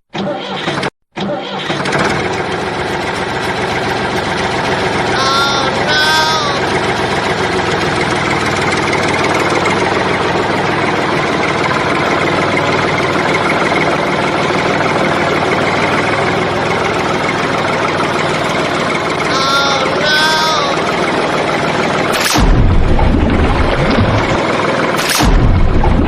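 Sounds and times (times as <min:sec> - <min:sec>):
engine running steadily: 0:01.8 - 0:26.0.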